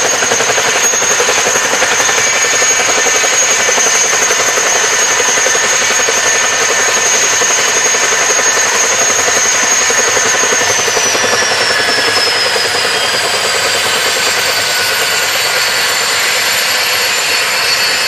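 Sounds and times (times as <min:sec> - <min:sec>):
helicopter engine whine: 0:00.0 - 0:18.0
helicopter rotor blade chop: 0:00.0 - 0:18.0.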